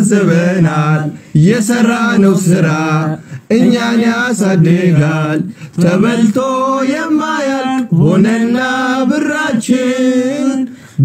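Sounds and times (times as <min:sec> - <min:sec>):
men singing a cappella: 0:00.0 - 0:11.0.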